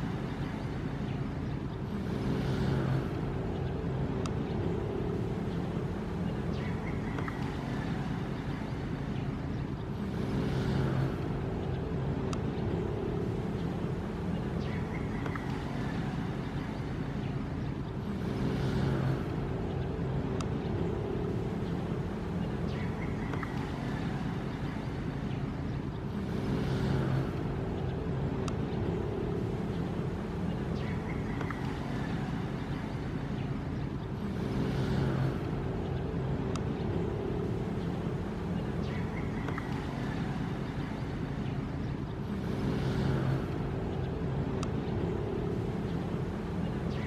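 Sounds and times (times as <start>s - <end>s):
ocean waves rumbling: 1.7s - 9.1s, 9.8s - 47.0s.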